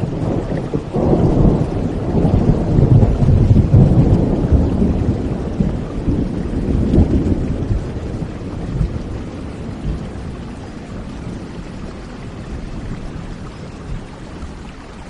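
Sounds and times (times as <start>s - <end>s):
rolling thunder: 0.0s - 14.2s
steady rain: 0.0s - 15.0s.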